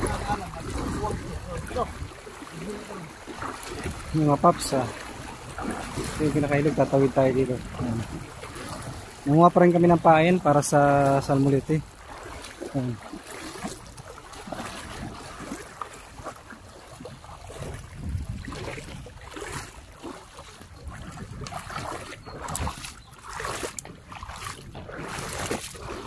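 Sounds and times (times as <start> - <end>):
river water sloshing and splashing: 0.0 - 26.0.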